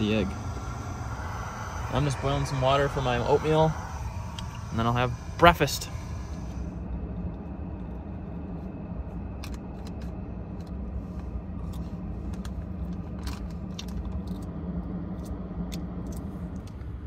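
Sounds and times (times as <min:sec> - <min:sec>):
pickup truck idling hum: 0:00.0 - 0:14.4.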